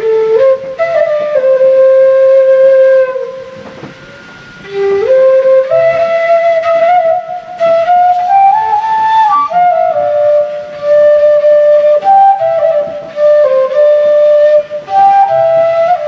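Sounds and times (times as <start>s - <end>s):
bamboo flute melody: 0.0s - 16.0s.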